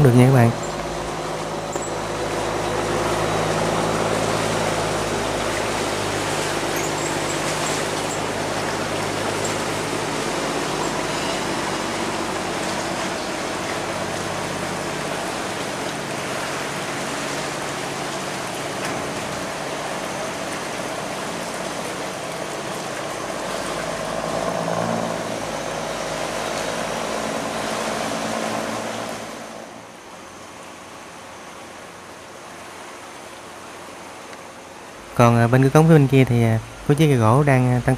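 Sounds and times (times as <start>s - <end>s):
barge engine running: 0.0s - 37.9s
rushing water: 0.0s - 37.9s.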